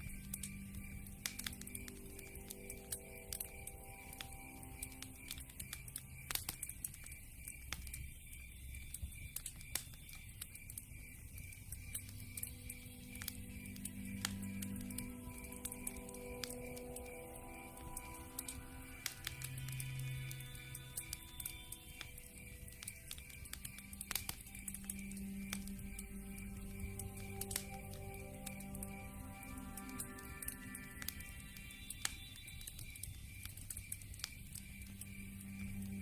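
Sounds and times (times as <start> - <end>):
soft background music: 0.0 - 36.0
wood fire crackling and popping: 0.0 - 36.0.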